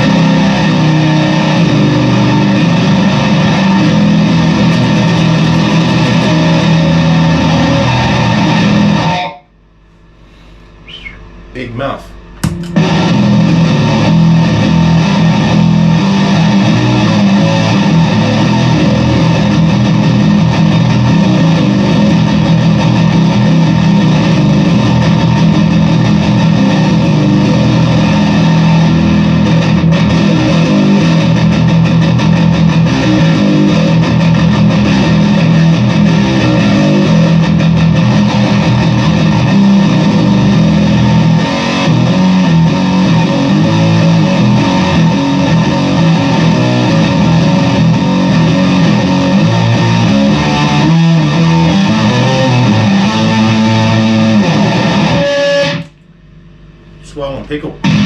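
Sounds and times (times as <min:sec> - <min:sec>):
fuzz-distorted bass guitar: 0:00.0 - 0:57.2, 0:57.8 - 0:58.0.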